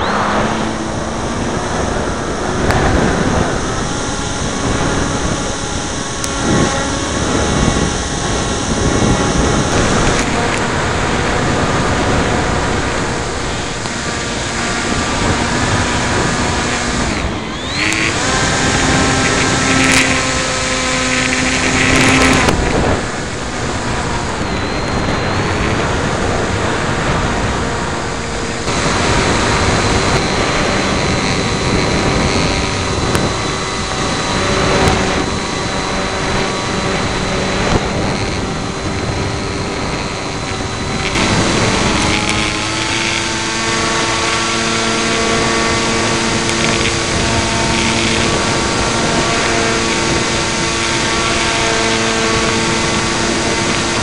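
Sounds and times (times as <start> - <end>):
model plane motor whining: 0.0 - 54.0
wind noise on microphone: 0.0 - 54.0.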